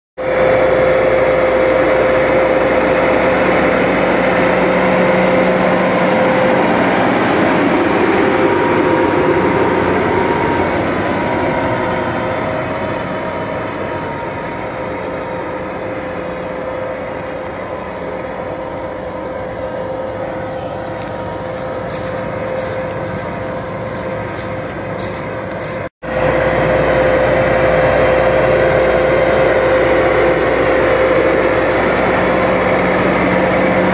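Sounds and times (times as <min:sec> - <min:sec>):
tractor diesel engine under load: 0:00.2 - 0:33.9.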